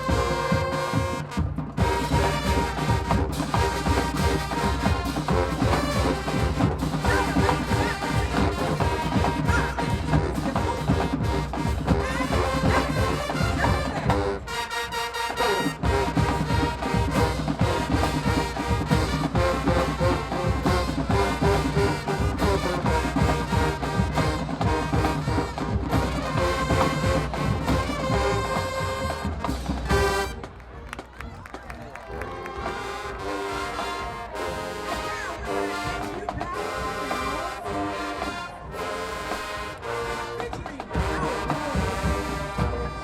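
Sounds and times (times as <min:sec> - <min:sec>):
brass section playing: 0:00.0 - 0:30.8, 0:32.0 - 0:43.0
drumline beating steady rhythm: 0:00.0 - 0:43.0.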